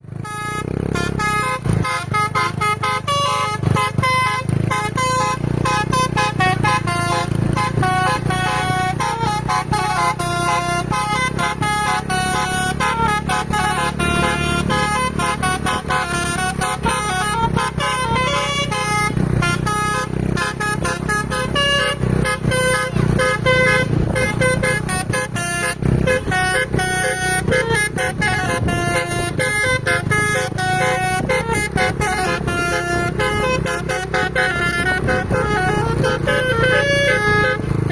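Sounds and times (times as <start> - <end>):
bus engine running: 0.0 - 37.9
bus horn playing a tune: 0.0 - 37.9.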